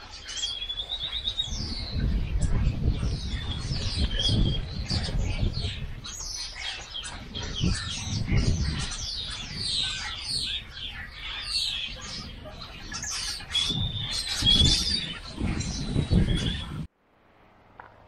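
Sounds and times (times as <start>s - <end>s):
small birds chirping: 0.0s - 16.9s
whistled bird note: 0.1s - 16.9s.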